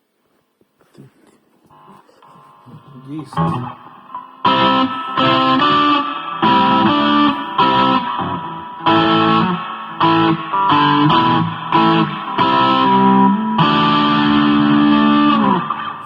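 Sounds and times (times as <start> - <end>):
electric guitar chords: 1.7 - 16.0.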